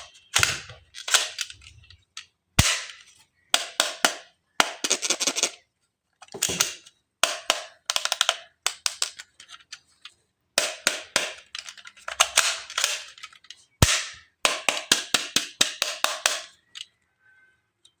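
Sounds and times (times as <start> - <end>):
plastic toy clicks and rattles: 0.0 - 5.6, 6.2 - 17.0.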